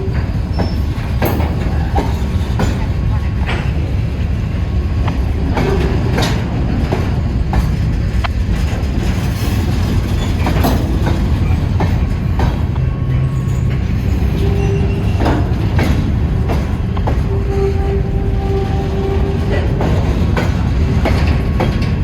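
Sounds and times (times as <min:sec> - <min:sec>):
wheels clacking over rail joints: 0:00.0 - 0:22.0.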